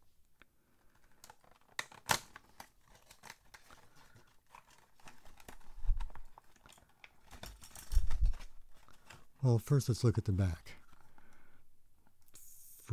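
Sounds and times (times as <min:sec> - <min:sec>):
cardboard packaging rustling: 0:00.7 - 0:11.2.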